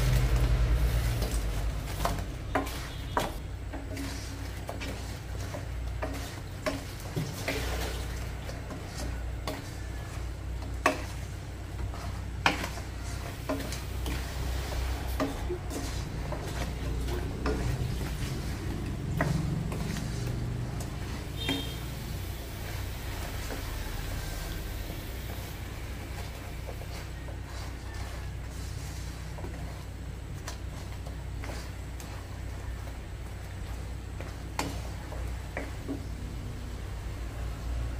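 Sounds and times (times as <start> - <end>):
spatula knocking and scraping wok: 0.0 - 37.2
glaze sizzling: 0.0 - 37.9.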